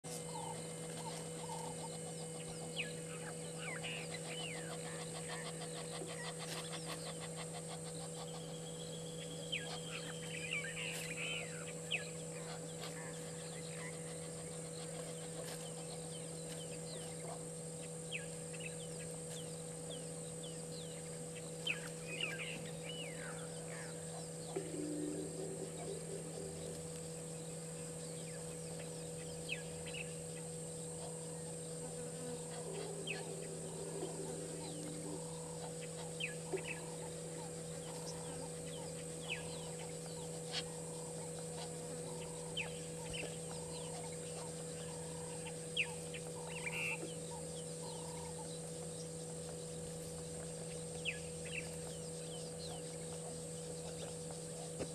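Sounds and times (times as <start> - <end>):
low steady hum: 0.0 - 54.9
bird calls and chirps: 0.1 - 54.9
high-pitched insect drone: 0.1 - 54.9.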